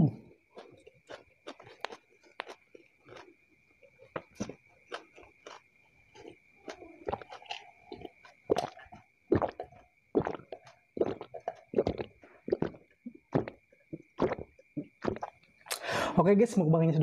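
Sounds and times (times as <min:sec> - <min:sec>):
man gulping a drink: 0:00.0 - 0:15.9.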